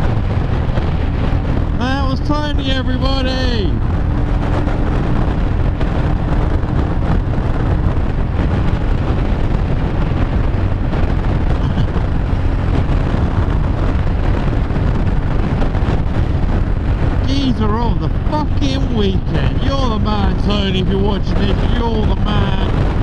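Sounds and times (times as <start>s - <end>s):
motorcycle engine drone: 0.0s - 23.0s
tyre road noise: 0.0s - 23.0s
wind rushing over microphone: 0.0s - 23.0s.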